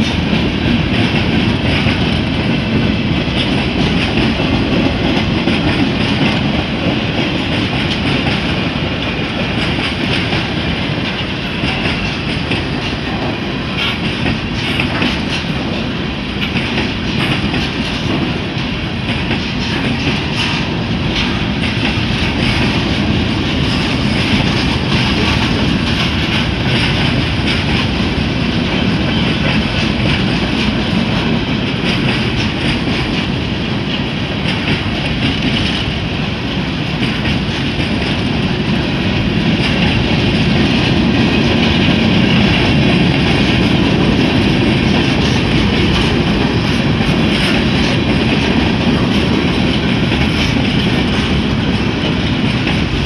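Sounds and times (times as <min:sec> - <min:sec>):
freight train wheels on rails: 0:00.0 - 0:53.0
wheels clacking on track joints: 0:00.0 - 0:53.0.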